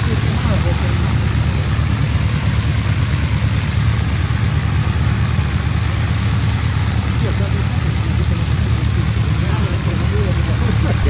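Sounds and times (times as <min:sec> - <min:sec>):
aircraft engine idling: 0:00.0 - 0:11.0.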